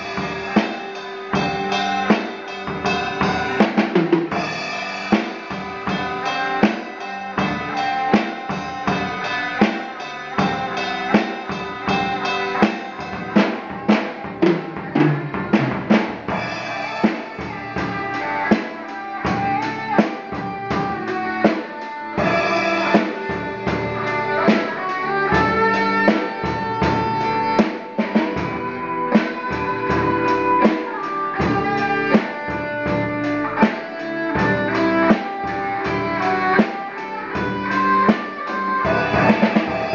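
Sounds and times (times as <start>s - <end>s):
drum beat: 0.0s - 39.9s
electric guitar melody: 0.0s - 39.9s.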